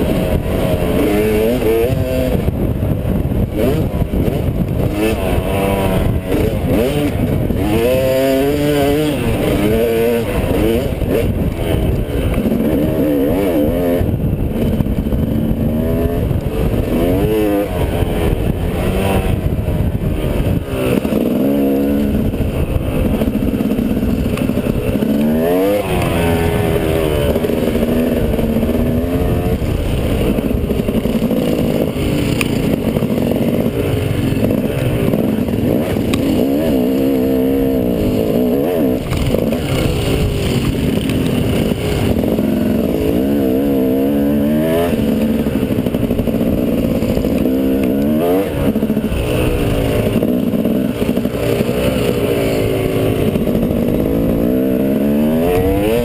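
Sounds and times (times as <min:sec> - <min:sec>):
dirt bike engine revving: 0:00.0 - 0:56.0
wind rushing over helmet: 0:00.0 - 0:56.0.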